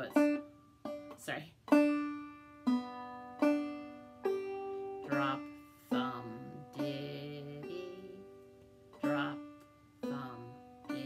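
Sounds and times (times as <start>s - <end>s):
banjo plucked notes: 0.0s - 11.0s.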